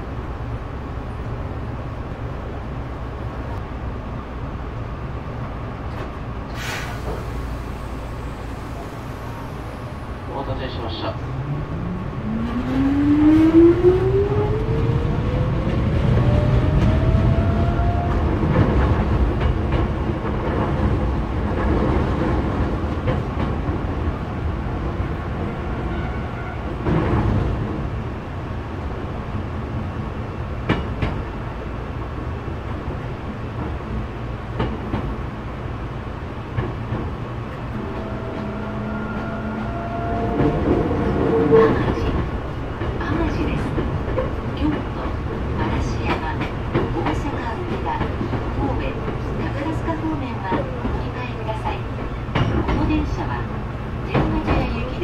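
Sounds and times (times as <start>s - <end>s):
train wheel and rail noise: 0.0s - 55.0s.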